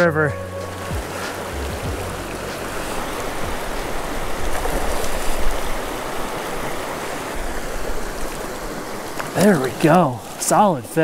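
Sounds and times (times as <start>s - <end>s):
river rushing over rocks: 0.6s - 11.0s.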